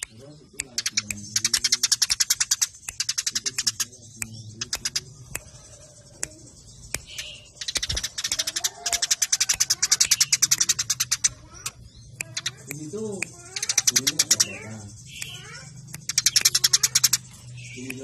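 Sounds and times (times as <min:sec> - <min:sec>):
sparrows chirping rapidly: 0:00.0 - 0:18.0.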